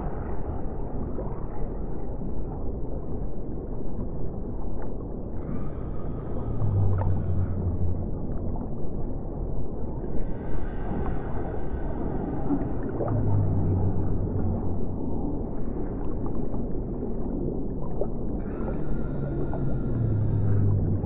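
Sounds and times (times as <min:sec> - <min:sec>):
low muffled water noise: 0:00.0 - 0:21.0
low steady hum: 0:00.0 - 0:21.0.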